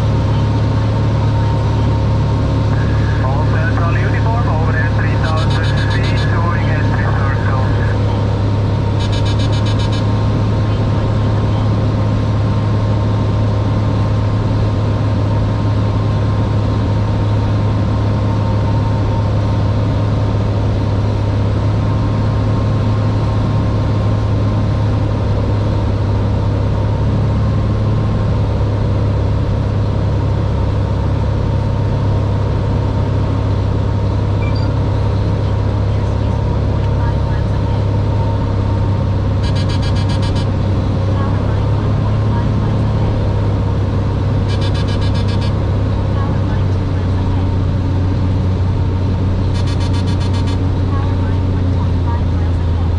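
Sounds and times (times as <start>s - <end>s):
airplane engine droning in cockpit: 0.0s - 52.9s.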